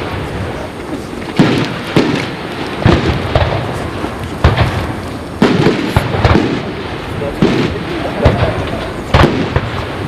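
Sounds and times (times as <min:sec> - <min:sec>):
fireworks bangs: 0:00.0 - 0:10.0
rumbling echo: 0:00.0 - 0:10.0.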